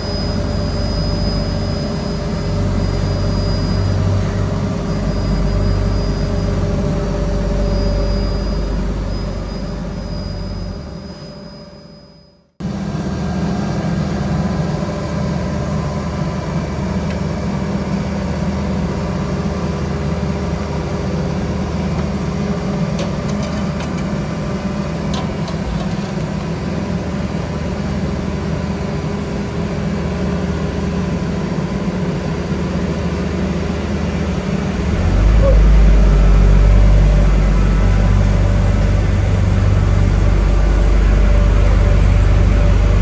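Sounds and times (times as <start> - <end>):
heavy diesel machinery running: 0.0 - 43.0.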